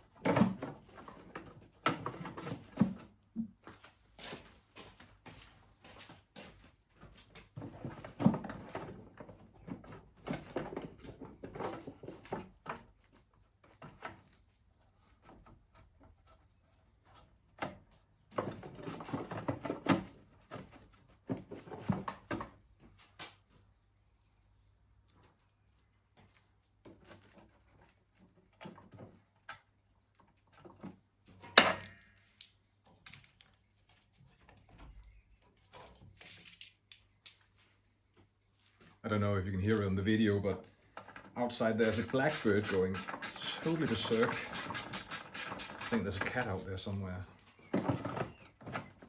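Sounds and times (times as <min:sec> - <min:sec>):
parts and tools clicking and rattling: 0:00.0 - 0:39.0, 0:40.8 - 0:49.0.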